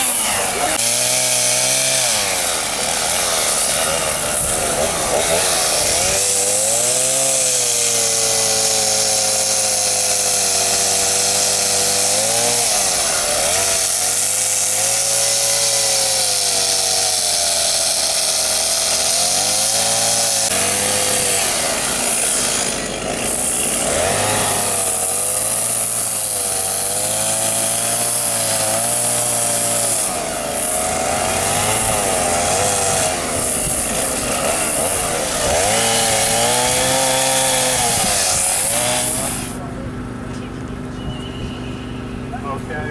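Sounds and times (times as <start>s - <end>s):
chainsaw cutting wood: 0.0s - 39.7s.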